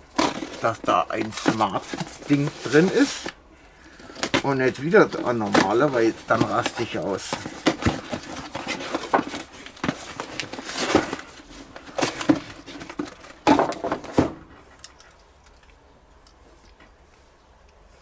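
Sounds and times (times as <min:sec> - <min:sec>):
cardboard packaging rustling: 0:00.0 - 0:14.7.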